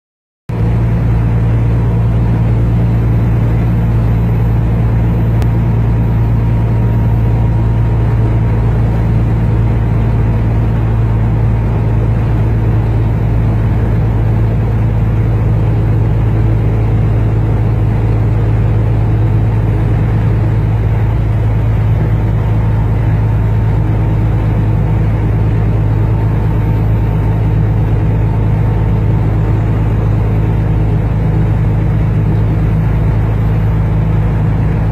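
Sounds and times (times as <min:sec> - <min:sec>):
road noise: 0:00.5 - 0:34.9
truck engine drone: 0:00.5 - 0:34.9.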